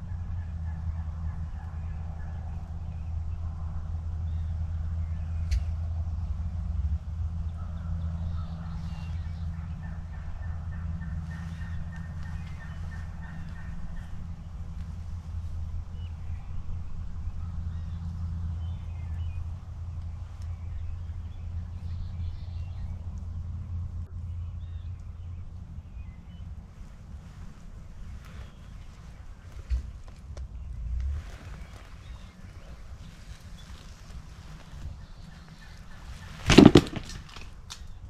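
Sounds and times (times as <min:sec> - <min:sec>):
low rumble: 0:00.0 - 0:36.3.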